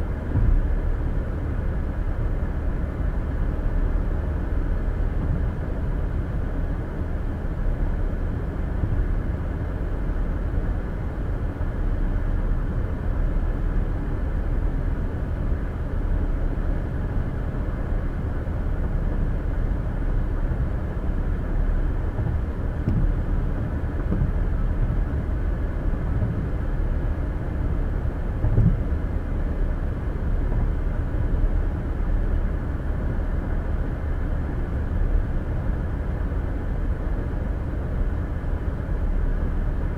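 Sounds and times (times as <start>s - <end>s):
car road noise inside cabin: 0.1s - 39.9s.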